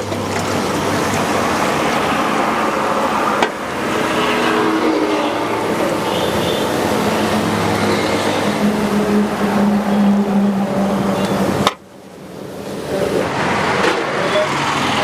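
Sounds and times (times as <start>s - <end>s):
road traffic with engine hum: 0.0s - 15.0s.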